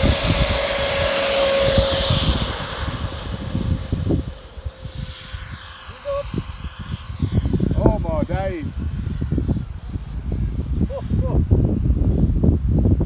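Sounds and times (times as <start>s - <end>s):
electric fan motor high whine: 0.0s - 13.0s
wind buffeting microphone: 0.0s - 13.0s.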